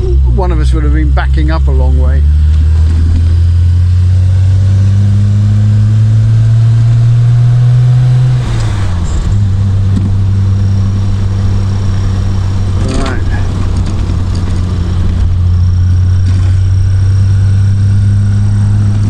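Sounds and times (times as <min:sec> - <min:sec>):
car engine pulling: 0:00.0 - 0:19.0.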